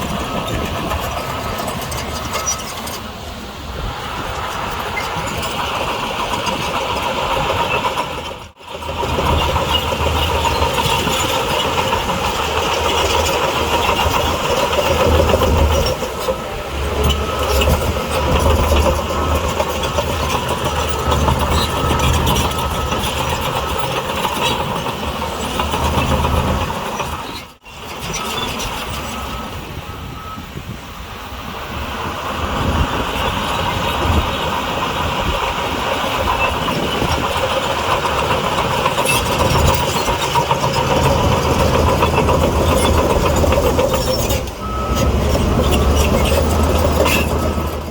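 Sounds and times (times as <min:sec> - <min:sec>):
diesel engine rumbling: 0:00.0 - 0:47.9.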